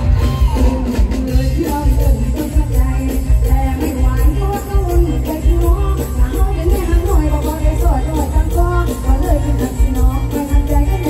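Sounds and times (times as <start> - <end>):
live band over sound system: 0.0 - 11.0
woman singing: 0.4 - 11.0.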